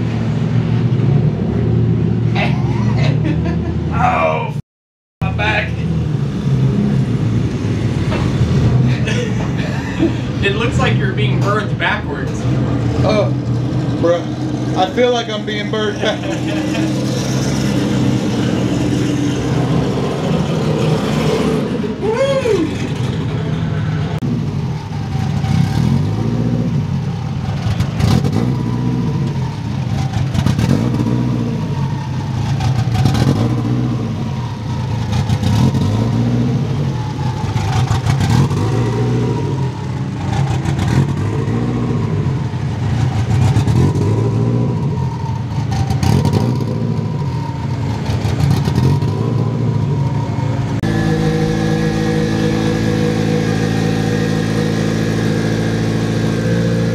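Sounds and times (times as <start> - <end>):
engine crackling: 5.4 - 56.9
race car engine revving: 5.8 - 56.9.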